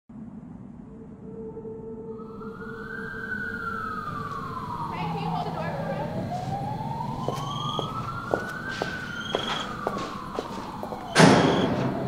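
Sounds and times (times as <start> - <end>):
siren wailing: 0.9 - 12.0.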